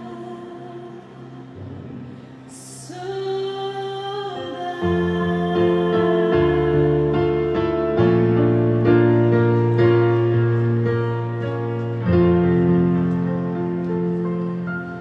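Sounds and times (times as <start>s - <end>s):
piano playing sustained chords: 0.0s - 15.0s.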